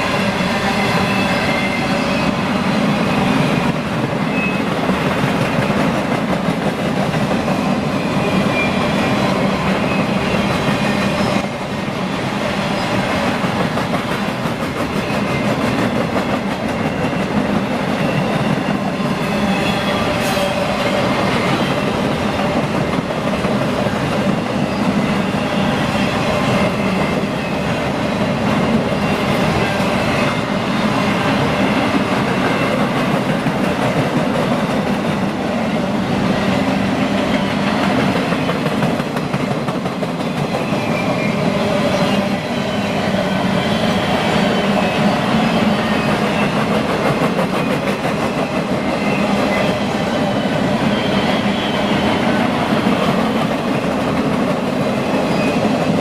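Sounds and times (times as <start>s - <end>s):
train wheels clattering on track: 0.0s - 56.0s.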